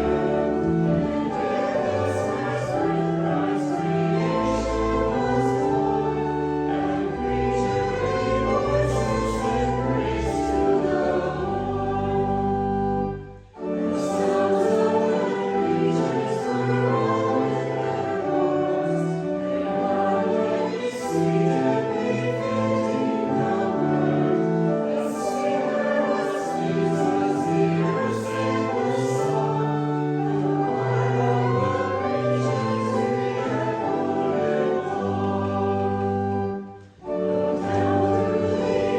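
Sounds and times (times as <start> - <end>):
congregation singing a hymn: 0.0 - 38.9
instrumental held chords: 0.0 - 38.9.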